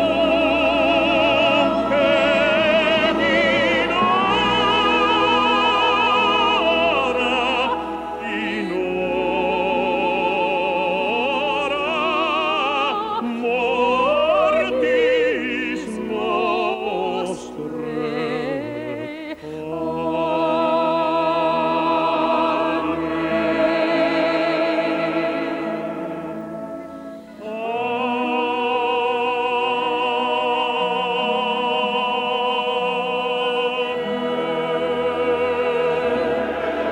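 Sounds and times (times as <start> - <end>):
operatic singing with vibrato: 0.0 - 36.9
orchestral accompaniment: 0.0 - 36.9.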